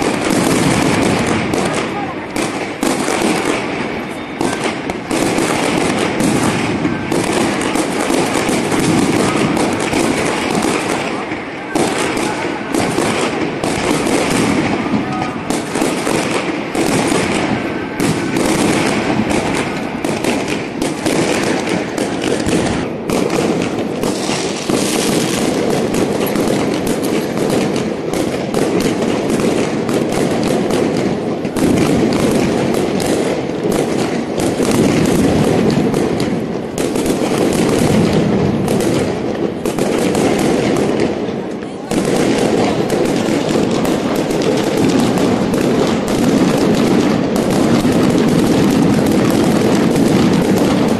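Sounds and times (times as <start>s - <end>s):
fireworks crackling and banging: 0.0s - 50.9s.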